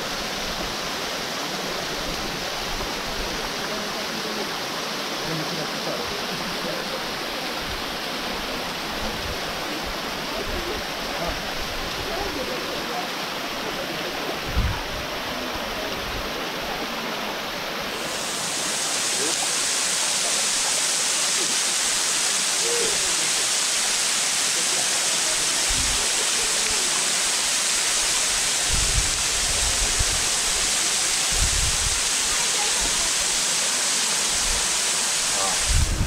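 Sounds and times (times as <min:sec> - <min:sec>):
waterfall splashing over rocks: 0:00.0 - 0:36.0.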